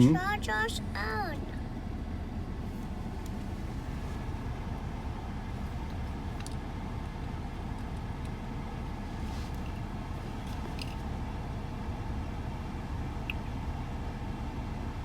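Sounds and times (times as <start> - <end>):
car wash rumble: 1.6 - 15.0.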